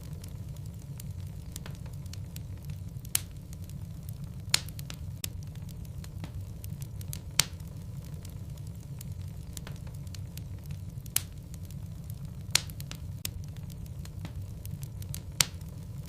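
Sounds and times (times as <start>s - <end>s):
fireplace fire rumbling: 0.0s - 16.0s
logs crackling and popping: 0.0s - 16.0s.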